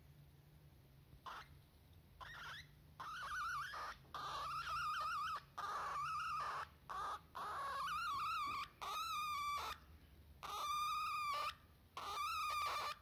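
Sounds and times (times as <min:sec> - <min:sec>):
cockatiel warbling chirps: 0:01.2 - 0:01.6, 0:02.2 - 0:09.8, 0:10.4 - 0:13.0.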